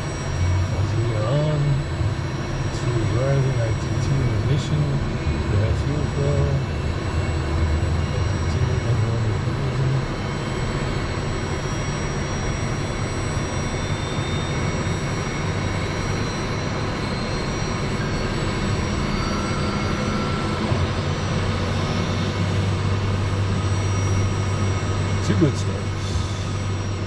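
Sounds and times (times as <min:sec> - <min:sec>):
jet engines spooling up: 0:00.0 - 0:27.0.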